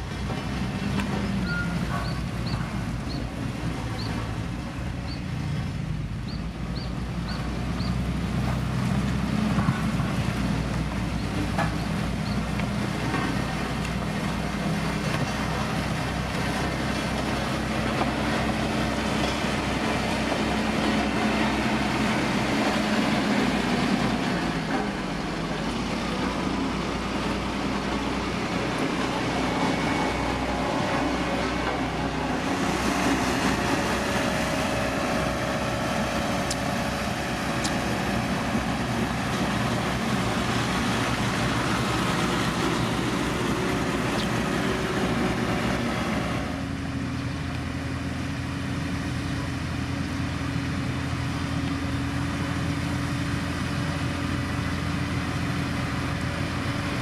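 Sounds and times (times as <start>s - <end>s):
construction machine engine drone: 0.0s - 57.0s.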